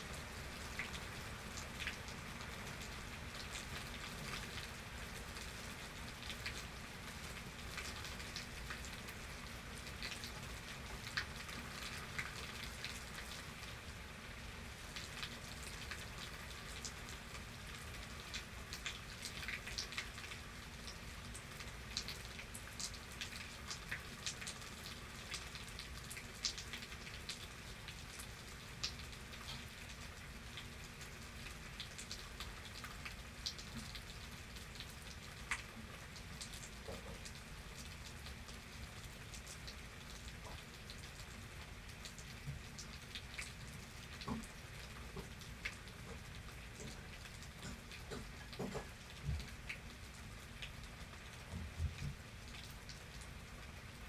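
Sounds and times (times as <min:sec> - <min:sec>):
hiss of rain: 0:00.0 - 0:54.0
raindrops ticking on surface: 0:00.0 - 0:54.0.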